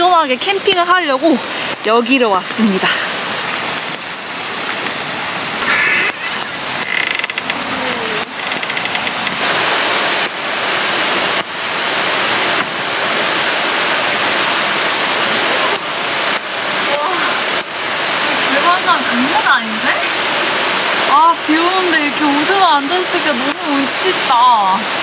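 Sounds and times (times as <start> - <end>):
rain falling: 0.0 - 25.0
rushing stream: 0.0 - 25.0.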